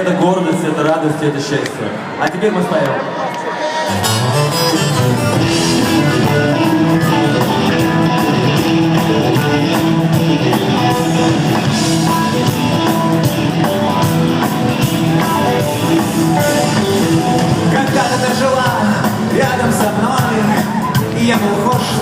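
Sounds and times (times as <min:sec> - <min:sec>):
electric guitar: 0:03.1 - 0:22.0
live rock band playing: 0:03.4 - 0:22.0.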